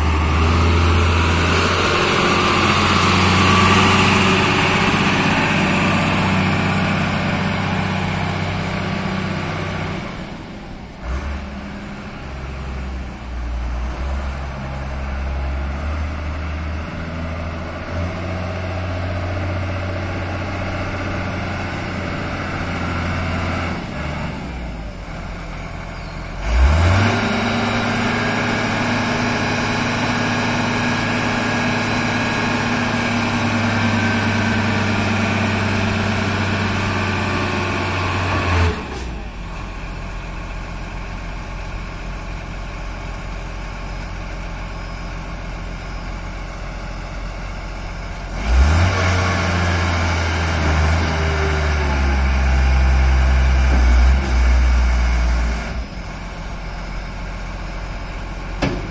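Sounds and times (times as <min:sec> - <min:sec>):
forklift engine revving and idling: 0:00.0 - 0:58.9.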